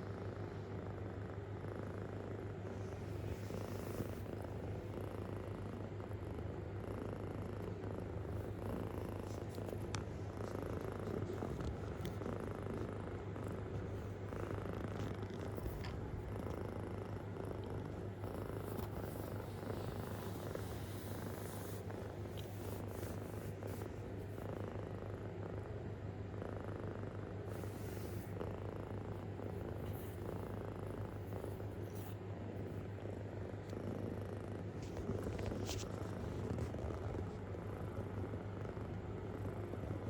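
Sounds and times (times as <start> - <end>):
kitten purring: 0.0 - 40.0.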